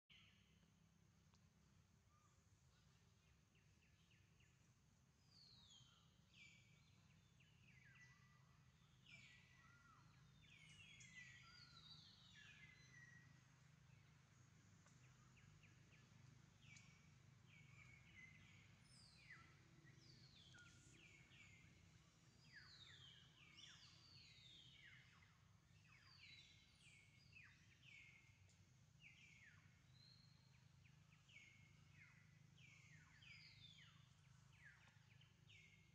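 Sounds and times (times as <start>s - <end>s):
low steady hum: 0.1s - 35.9s
small birds chirping: 0.1s - 35.9s.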